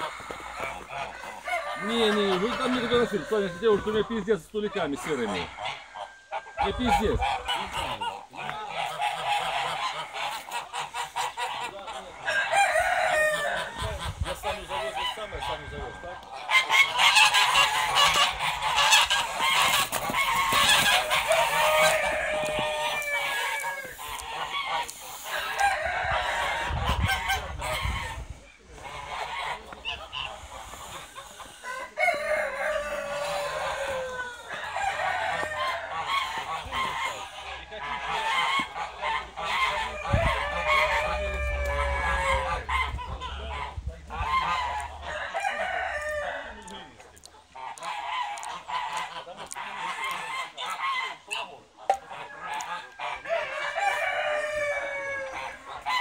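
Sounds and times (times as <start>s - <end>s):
chickens clucking: 0.0s - 56.0s
geese honking: 0.0s - 56.0s.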